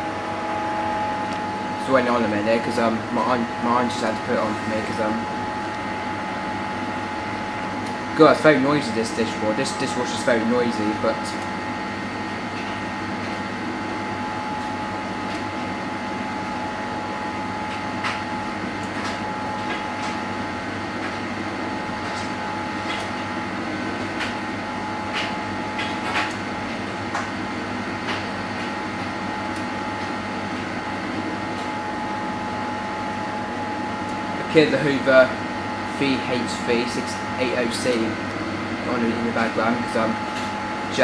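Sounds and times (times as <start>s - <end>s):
dishwasher running: 0.0s - 41.0s
steady whine: 0.0s - 41.0s.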